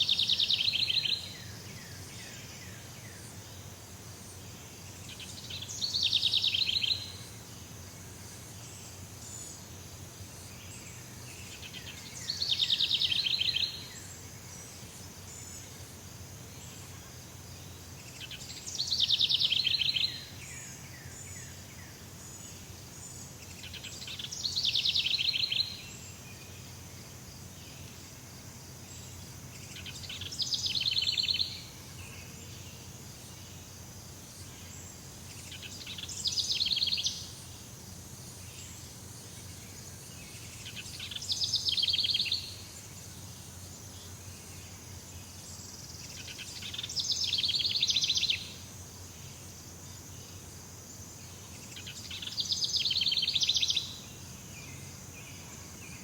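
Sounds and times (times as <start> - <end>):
high insect-like hiss: 0.0 - 56.0.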